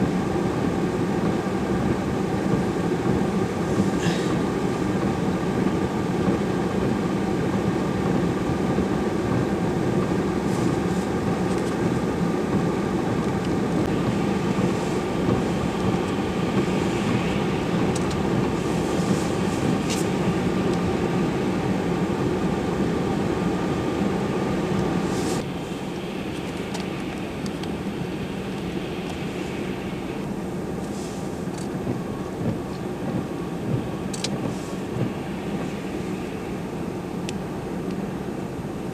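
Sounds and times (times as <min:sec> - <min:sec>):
heavy vehicle engine rumbling: 0:00.0 - 0:38.9.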